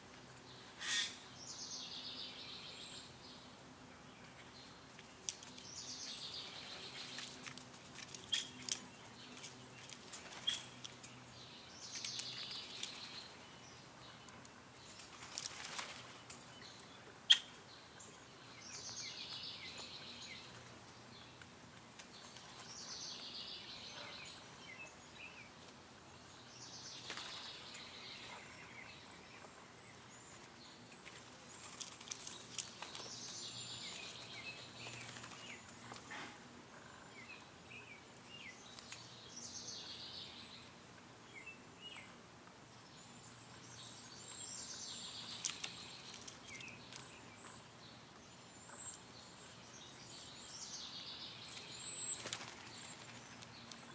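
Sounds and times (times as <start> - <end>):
faint background hum: 0.0 - 53.9
songbird singing: 0.0 - 53.9.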